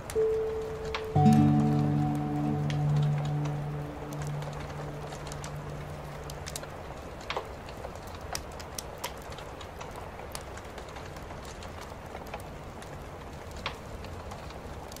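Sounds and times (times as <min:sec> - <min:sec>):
sharp crackles: 0:00.0 - 0:15.0.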